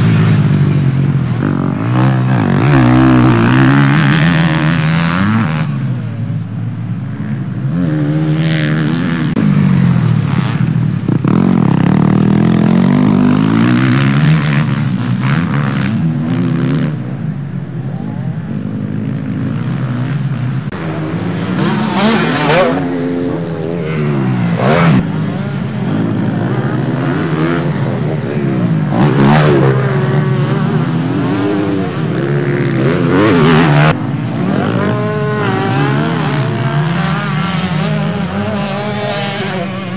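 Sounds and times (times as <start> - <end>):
motocross bike engines racing: 0.0 - 39.9
motorbikes passing by: 0.0 - 39.9.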